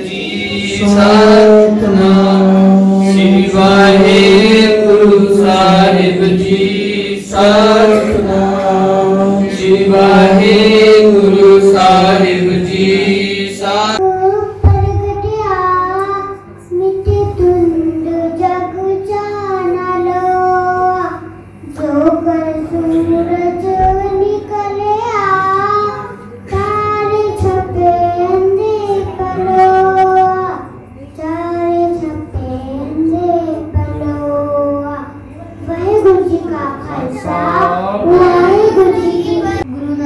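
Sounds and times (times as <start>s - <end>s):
children singing a hymn: 0.0s - 40.0s
steady drone: 0.0s - 40.0s.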